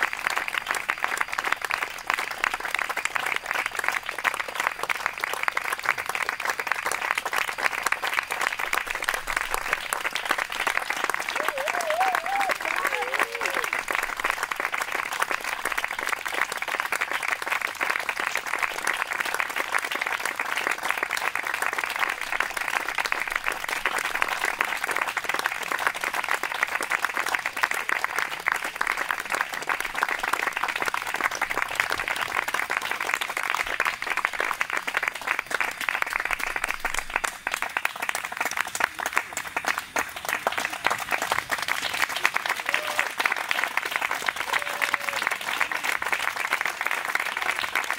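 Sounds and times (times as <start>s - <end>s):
audience applauding: 0.0s - 47.9s.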